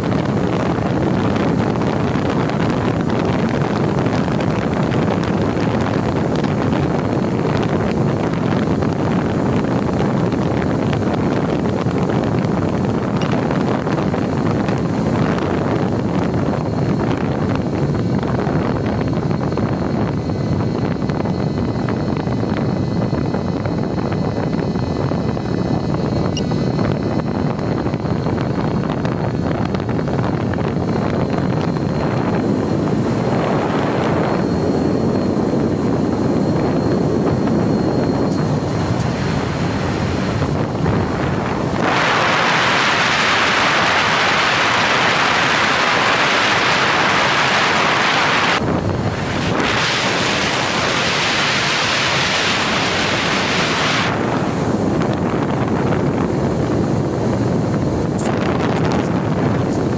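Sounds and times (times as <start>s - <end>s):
model plane motor noise: 0.0s - 59.9s
thin steady whine: 0.0s - 59.9s
wind rush: 0.0s - 59.9s.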